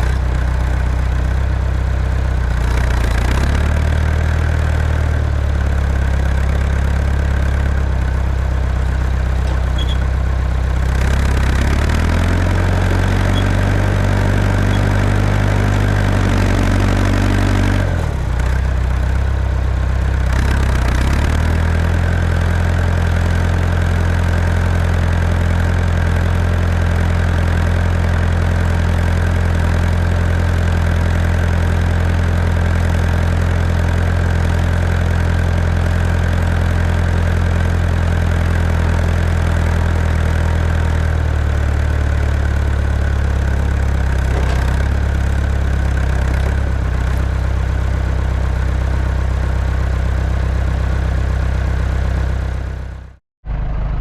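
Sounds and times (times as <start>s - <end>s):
tractor engine under load: 0.0s - 52.9s.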